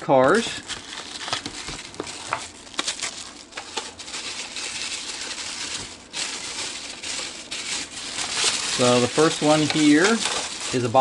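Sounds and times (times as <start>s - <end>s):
plastic tray crinkling: 0.1s - 11.0s
tissue paper rustling: 0.6s - 11.0s.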